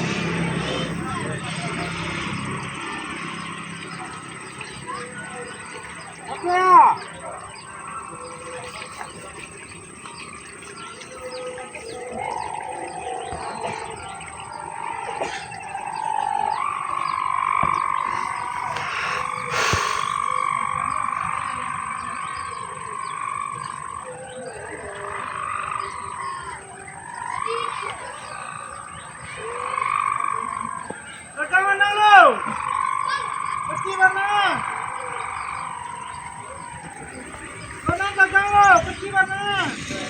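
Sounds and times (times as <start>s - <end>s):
kite hummer droning in wind: 0.0s - 40.0s.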